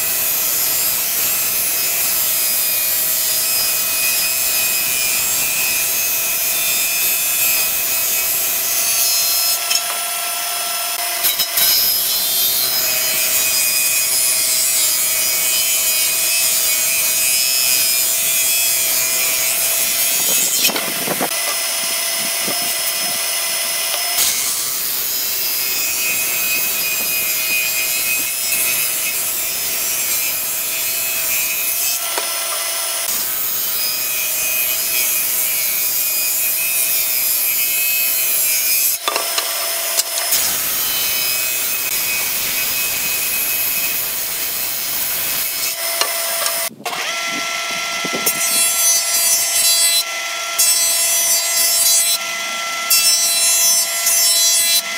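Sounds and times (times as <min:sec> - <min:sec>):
saw cutting wood: 0:00.0 - 0:54.9.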